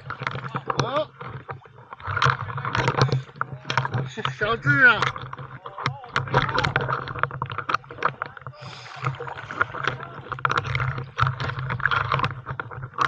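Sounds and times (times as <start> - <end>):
short knocks and clatters: 0.0 - 13.0.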